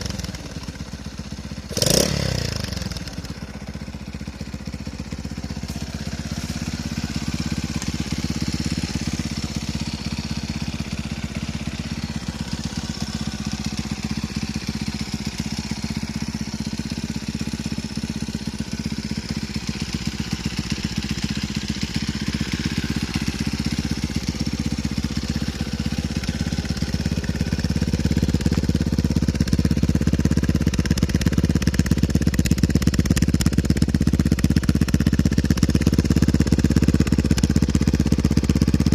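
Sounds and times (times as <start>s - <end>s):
moped engine running: 0.0s - 38.9s.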